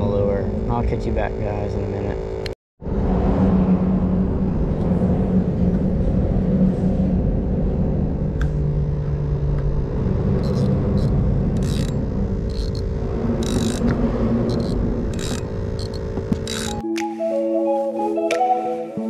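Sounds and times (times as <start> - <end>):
traffic rumbling overhead: 0.0 - 16.8.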